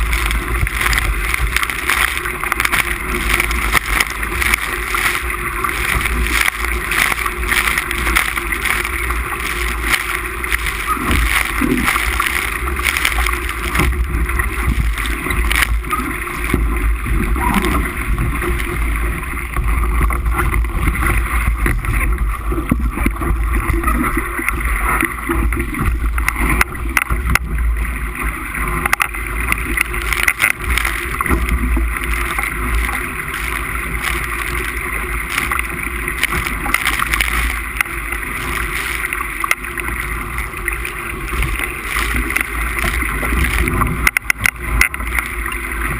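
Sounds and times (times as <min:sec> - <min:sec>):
water rushing along hull: 0:00.0 - 0:45.9.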